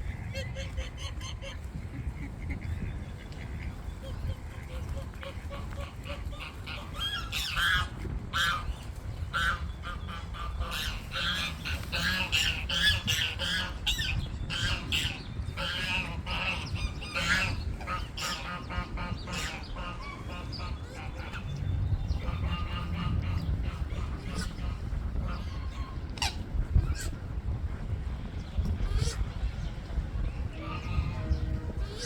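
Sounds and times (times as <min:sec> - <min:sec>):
water birds calling: 0:00.0 - 0:32.0.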